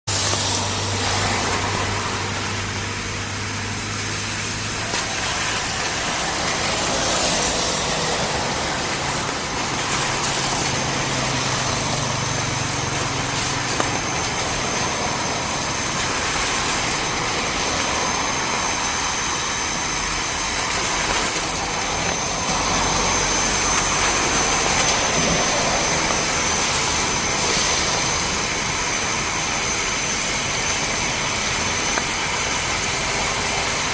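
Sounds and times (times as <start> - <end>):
high steady whine: 0.1 - 33.9
turboprop engines running: 0.1 - 33.9.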